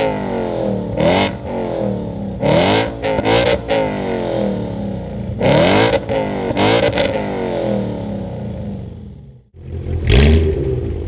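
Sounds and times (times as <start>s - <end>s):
car engine revving: 0.0s - 11.0s
second car engine revving: 0.0s - 11.0s.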